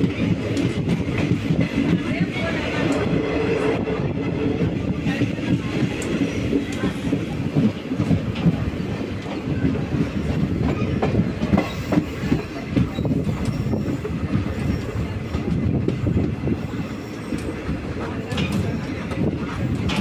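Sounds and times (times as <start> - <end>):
train knocks and rattles: 0.0 - 20.0
train rumble: 0.0 - 20.0.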